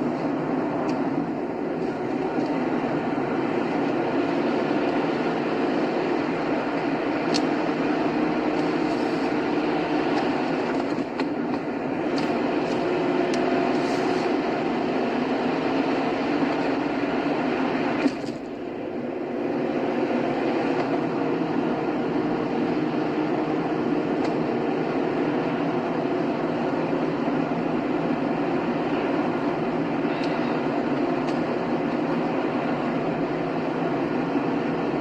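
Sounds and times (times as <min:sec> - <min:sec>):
car road and engine noise: 0:00.0 - 0:35.0.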